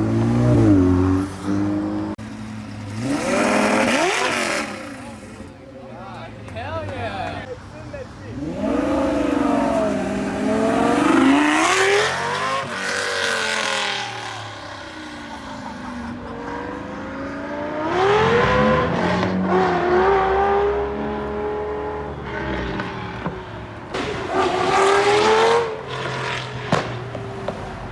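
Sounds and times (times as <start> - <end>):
sports car engines revving: 0.0 - 27.9.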